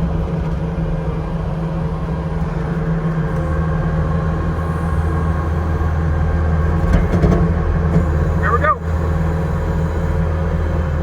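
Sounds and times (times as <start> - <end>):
skid steer engine humming: 0.0 - 11.0.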